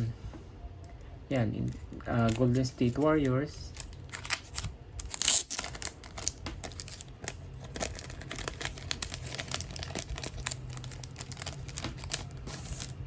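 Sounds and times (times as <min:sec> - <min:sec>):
low steady hum: 0:00.0 - 0:13.0
plastic packaging crinkling: 0:01.6 - 0:13.0.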